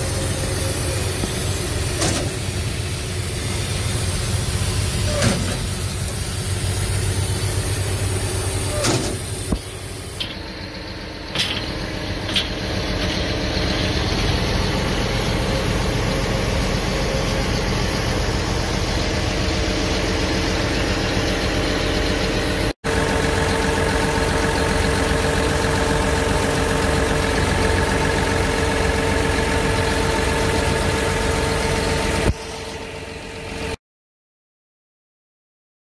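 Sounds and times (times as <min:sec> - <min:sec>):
steady whine: 0:00.0 - 0:33.7
diesel engine running: 0:00.0 - 0:33.8.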